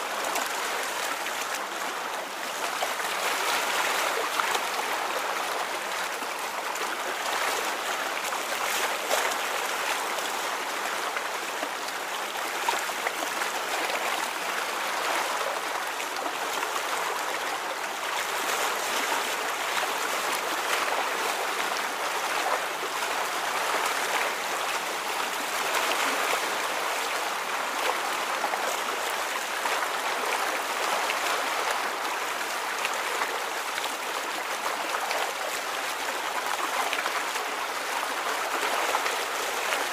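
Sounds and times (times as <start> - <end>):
stream rushing: 0.0 - 39.9
water trickling and splashing: 0.0 - 39.9.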